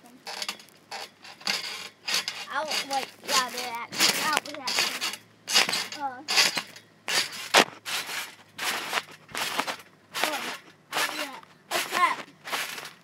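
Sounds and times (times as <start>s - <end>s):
trampoline bouncing thumps: 0.0s - 13.0s
trampoline squeaks: 0.0s - 13.0s.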